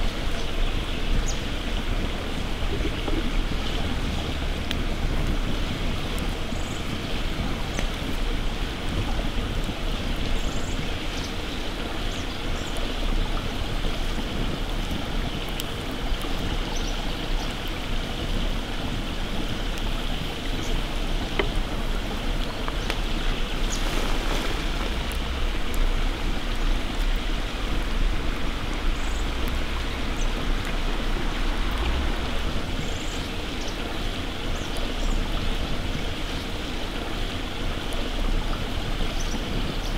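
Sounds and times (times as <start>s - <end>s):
faint campfire crackles: 0.0s - 39.9s
rushing running water: 0.0s - 39.9s.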